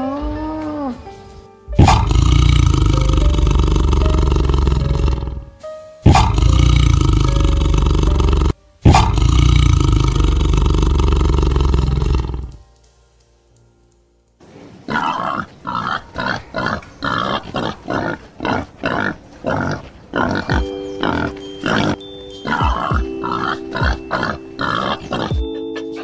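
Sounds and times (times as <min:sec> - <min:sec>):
background music: 0:00.0 - 0:26.0
pigs grunting: 0:01.8 - 0:05.5, 0:06.1 - 0:12.6, 0:14.8 - 0:26.0.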